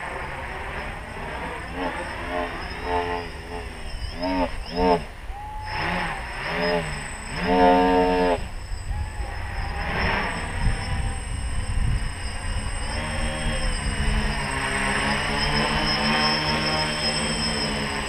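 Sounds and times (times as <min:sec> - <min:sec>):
drone propellers buzzing: 0:00.0 - 0:18.0
thin high whine: 0:00.0 - 0:18.0.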